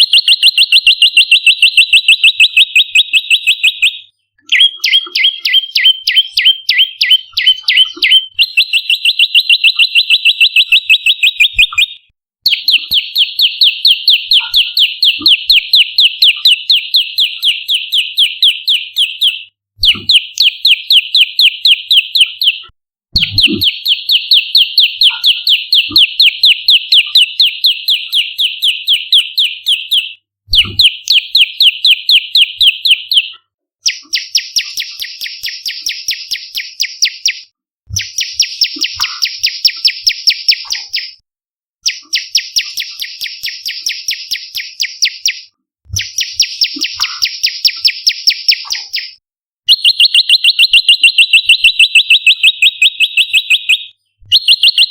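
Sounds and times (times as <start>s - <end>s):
bird sharp repeated chirps: 0.0s - 41.2s, 41.8s - 54.9s.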